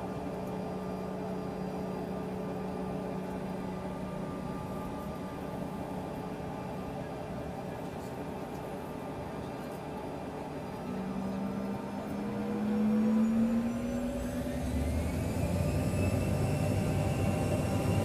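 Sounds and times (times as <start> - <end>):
aircraft cabin engine drone: 0.0 - 18.0
faint engine whine: 0.0 - 18.0.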